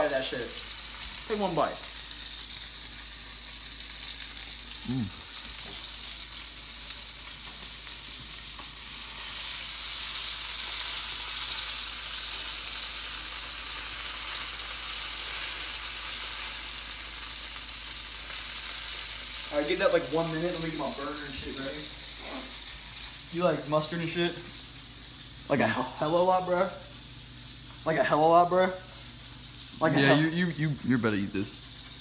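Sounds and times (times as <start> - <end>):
hamburger patty sizzling: 0.0 - 32.0.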